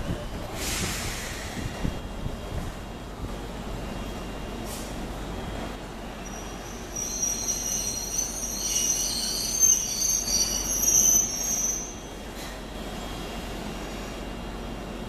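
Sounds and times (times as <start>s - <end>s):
train low rumble: 0.0s - 15.0s
train wheels squealing on rails: 0.5s - 2.1s, 3.8s - 14.5s.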